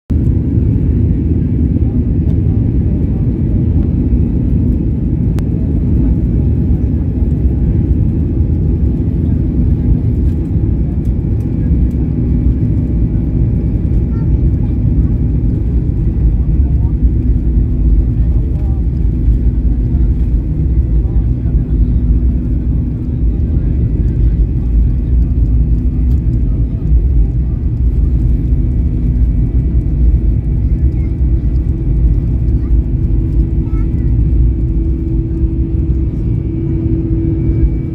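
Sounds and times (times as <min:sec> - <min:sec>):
jet engines roaring: 0:00.1 - 0:37.9
wheels rumbling on runway: 0:00.1 - 0:37.9.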